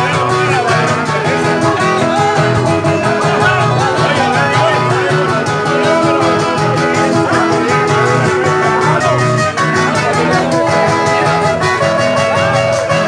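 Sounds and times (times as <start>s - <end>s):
plucked guitars: 0.0s - 13.0s
quick percussion beat: 0.0s - 13.0s.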